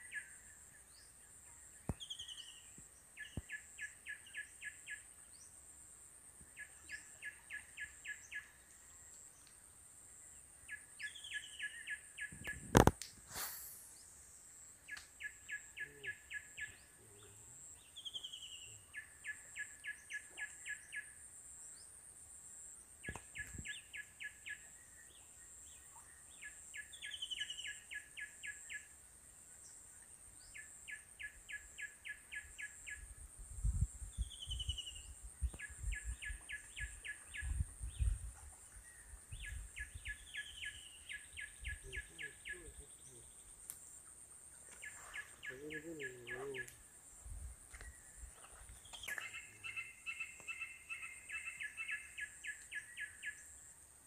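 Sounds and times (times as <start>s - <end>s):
bird singing: 0.0s - 5.6s, 6.5s - 9.5s, 10.1s - 12.9s, 13.9s - 22.0s, 22.6s - 29.0s, 29.6s - 46.9s, 47.6s - 53.7s.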